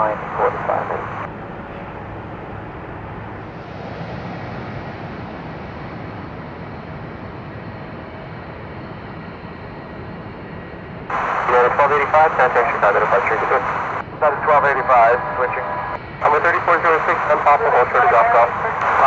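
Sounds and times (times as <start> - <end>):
jet aircraft rumble and hiss: 0.0 - 19.0.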